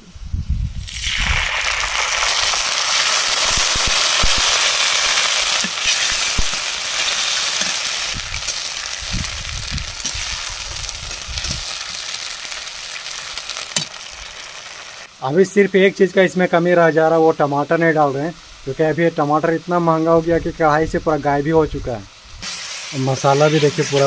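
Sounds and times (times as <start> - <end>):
spice paste sizzling in oil: 0.8 - 24.0.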